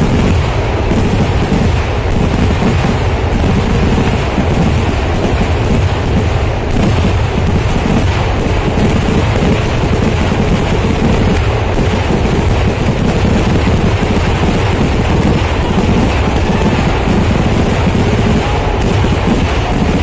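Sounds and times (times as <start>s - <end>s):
fireworks explosions and crackling: 0.0s - 20.0s.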